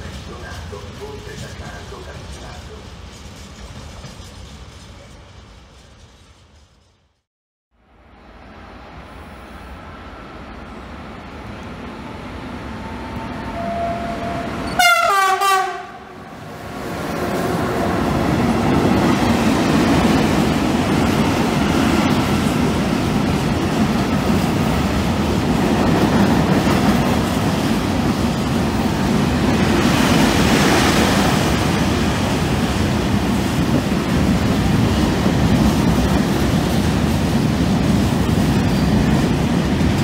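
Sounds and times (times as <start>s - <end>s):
freight train wheels rumbling on rails: 0.0s - 7.3s, 9.0s - 40.0s.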